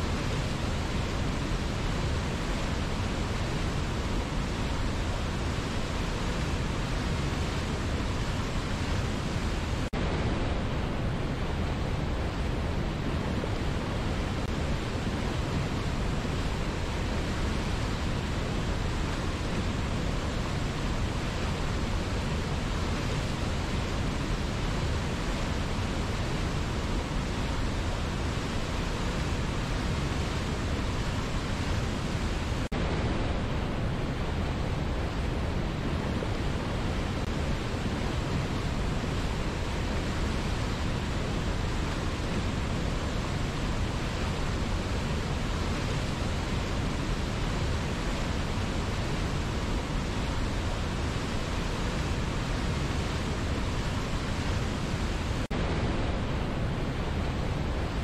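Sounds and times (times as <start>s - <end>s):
whitewater rushing over rocks: 0.0s - 58.0s.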